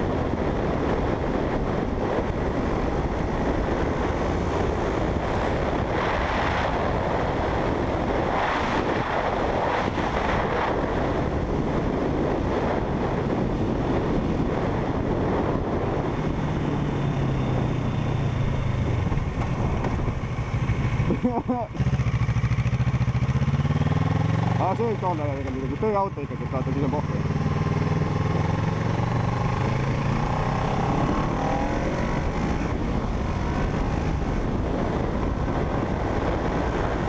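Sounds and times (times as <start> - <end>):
motorcycle engine: 0.0 - 37.0
wind rushing over microphone: 0.0 - 37.0.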